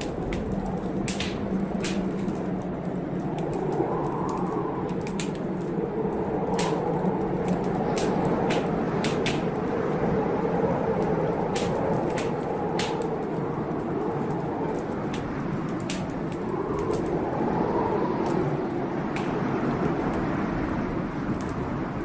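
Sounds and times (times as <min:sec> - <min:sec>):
storm rain: 0:00.0 - 0:22.0
wood fire crackling and popping: 0:00.0 - 0:22.0.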